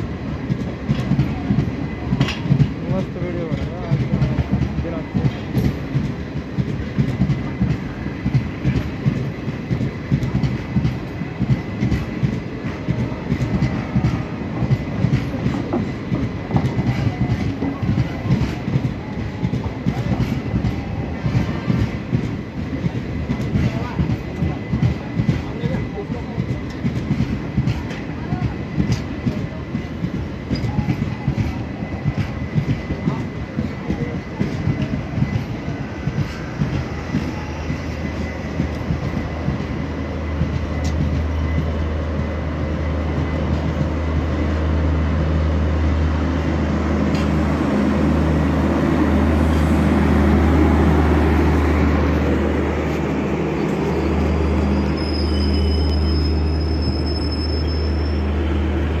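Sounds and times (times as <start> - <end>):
train wheels clattering over rails: 0.0 - 44.8, 46.4 - 59.0.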